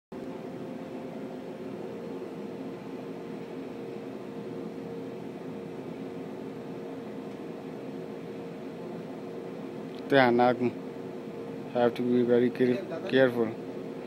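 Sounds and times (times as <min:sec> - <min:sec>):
mechanical hum and hiss: 0:00.1 - 0:14.0.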